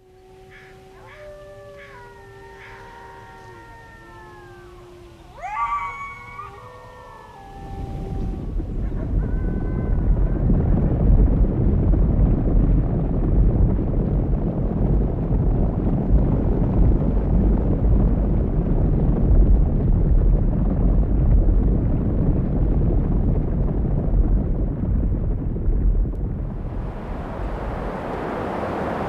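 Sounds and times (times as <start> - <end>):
rumble of many hooves: 0.0 - 29.0.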